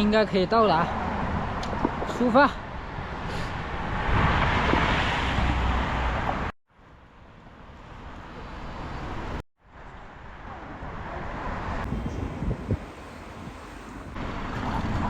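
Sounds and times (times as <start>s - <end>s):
traffic noise: 0.0s - 15.0s
wind: 0.0s - 15.0s.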